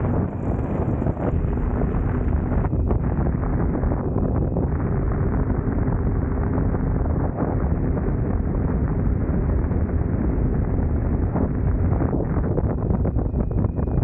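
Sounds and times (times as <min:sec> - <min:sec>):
motorcycle engine running: 0:00.0 - 0:12.2
wind buffeting microphone: 0:00.0 - 0:14.0.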